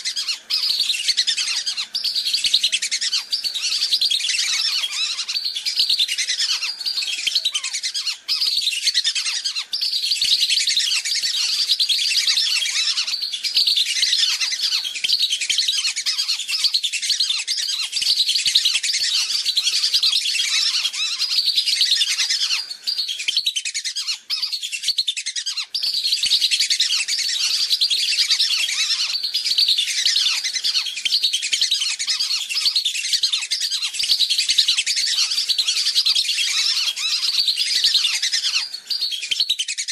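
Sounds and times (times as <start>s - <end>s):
whistling ducks calling: 0.0s - 39.9s.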